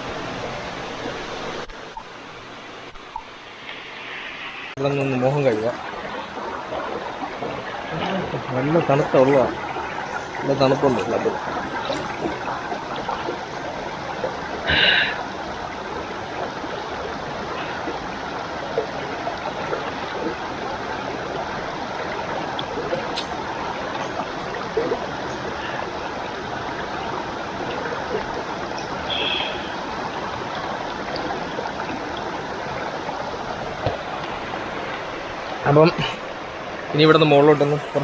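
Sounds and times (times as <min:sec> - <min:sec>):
river water rushing over rocks: 0:00.0 - 0:38.0.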